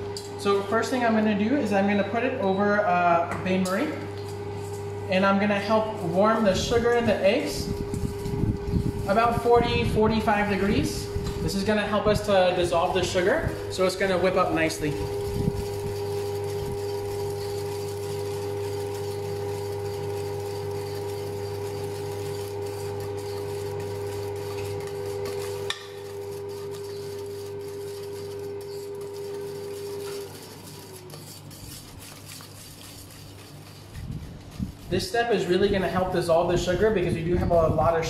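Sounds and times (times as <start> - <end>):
electrical hum from hob: 0.0 - 38.0
whisk scraping metal bowl: 5.5 - 37.6.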